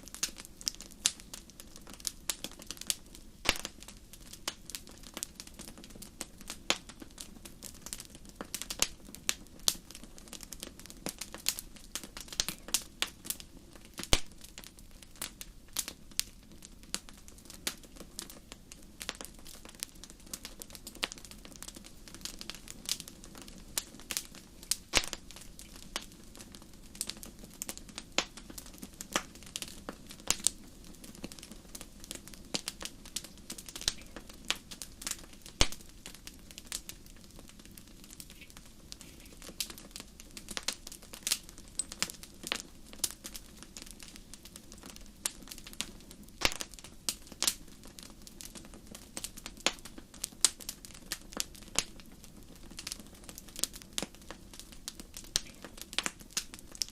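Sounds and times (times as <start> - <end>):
campfire crackling and popping: 0.0 - 56.9
soft hiss of burning fire: 0.0 - 56.9.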